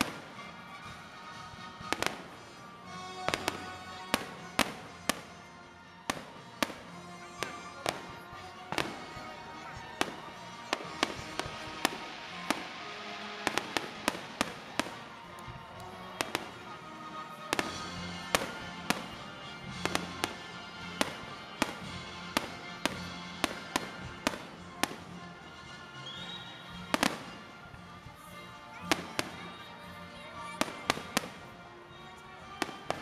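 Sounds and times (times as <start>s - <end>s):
background music: 0.0s - 33.0s.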